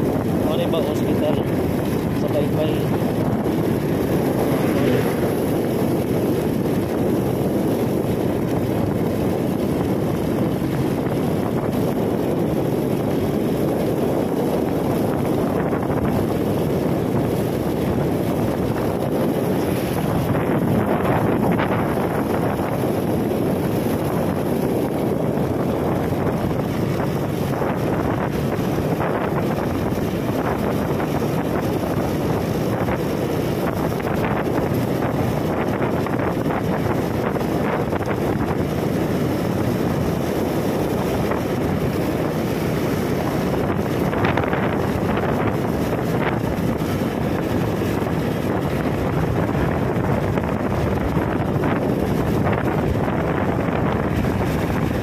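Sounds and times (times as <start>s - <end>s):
motorcycle engine: 0.0s - 55.0s
wind buffeting microphone: 0.0s - 55.0s.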